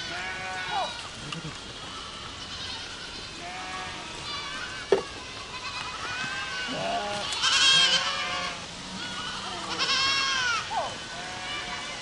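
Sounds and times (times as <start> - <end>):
goats bleating: 0.0 - 12.0.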